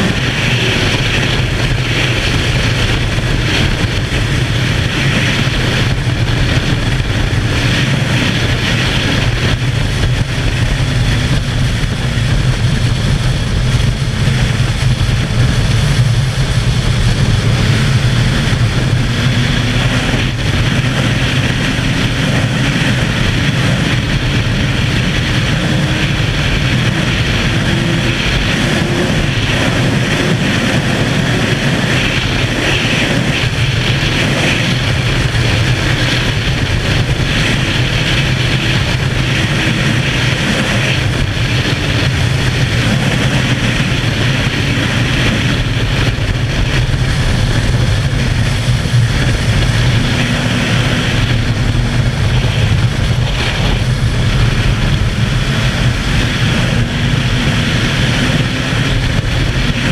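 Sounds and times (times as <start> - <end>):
motorbike engine running hard: 0.0 - 59.9
wind rush on microphone: 0.0 - 59.9.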